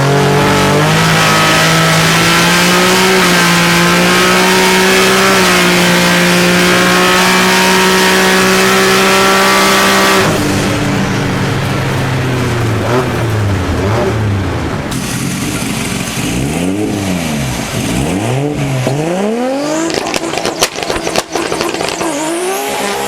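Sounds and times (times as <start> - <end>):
car engine running high: 0.0 - 23.0.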